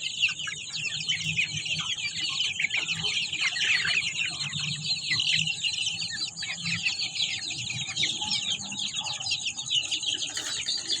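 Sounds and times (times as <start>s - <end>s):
chickens chirping: 0.0s - 11.0s
chickens clucking: 0.0s - 11.0s.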